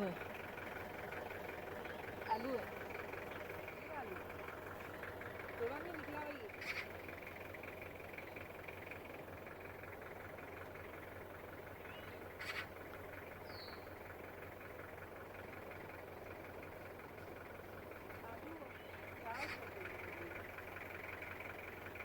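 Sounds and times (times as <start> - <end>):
faint outdoor background noise: 0.0 - 22.0.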